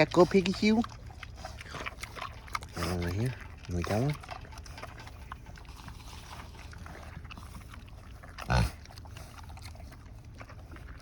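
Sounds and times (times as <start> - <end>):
pig grunt: 0.0 - 11.0
pigs chewing: 0.0 - 11.0.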